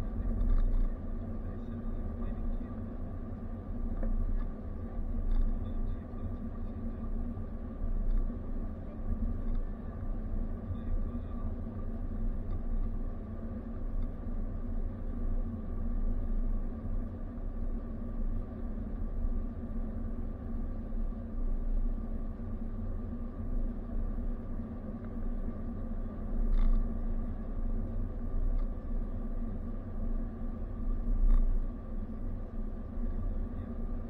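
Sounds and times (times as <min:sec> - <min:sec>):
car engine and tyre rumble: 0:00.0 - 0:34.0
steady hum: 0:00.0 - 0:34.0.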